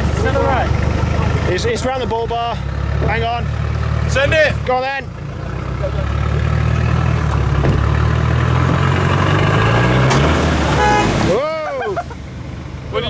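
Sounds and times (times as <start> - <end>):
engine running hard under load: 0.0 - 13.0.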